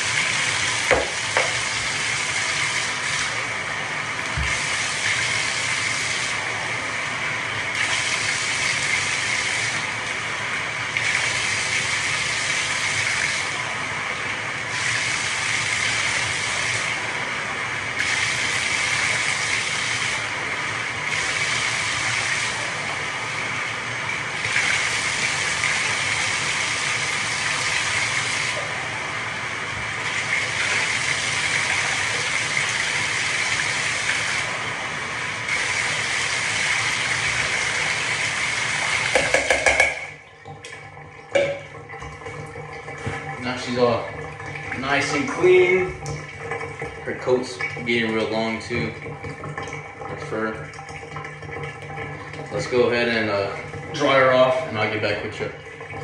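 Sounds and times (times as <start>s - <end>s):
running water rinsing: 0.0s - 56.0s.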